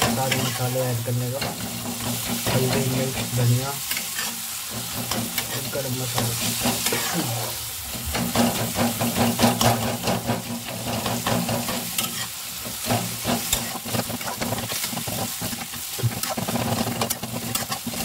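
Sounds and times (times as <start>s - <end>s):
masala sizzling in pan: 0.0s - 18.0s
metal ladle scraping pan: 0.0s - 18.0s.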